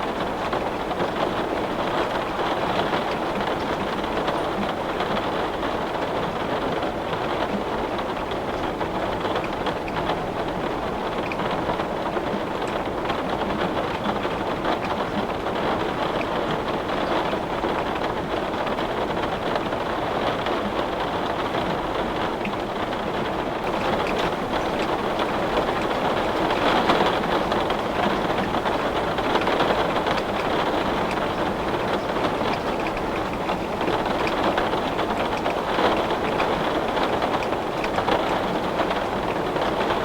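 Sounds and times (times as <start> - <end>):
heavy rain on a window: 0.0 - 40.0.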